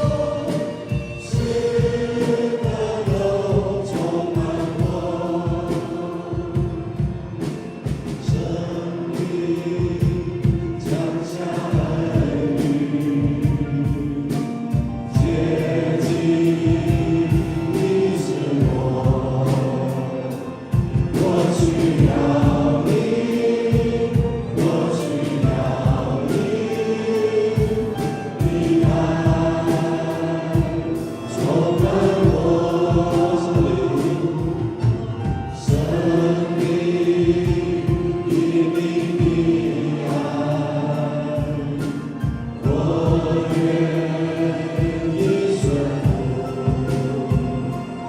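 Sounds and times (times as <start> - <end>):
band with keyboard and beat: 0.0 - 48.0
group singing in harmony: 0.0 - 48.0.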